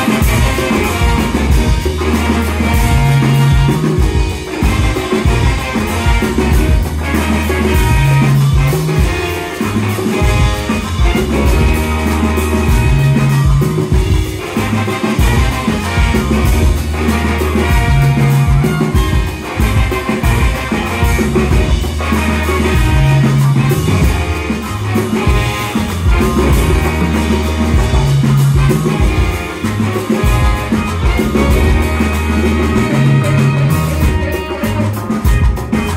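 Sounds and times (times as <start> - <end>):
bass line: 0.0 - 35.9
keyboard: 0.0 - 35.9
live brass band playing: 0.0 - 35.9
steady drum beat: 0.0 - 35.9.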